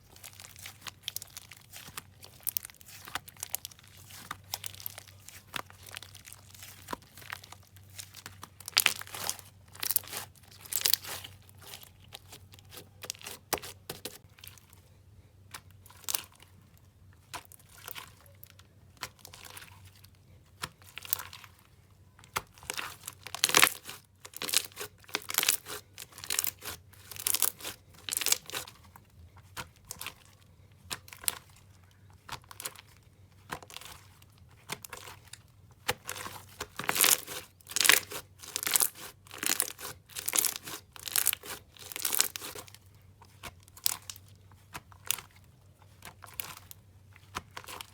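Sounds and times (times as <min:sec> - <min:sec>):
slime crackling and popping: 0:00.0 - 0:14.6, 0:22.3 - 0:28.7, 0:29.6 - 0:47.9.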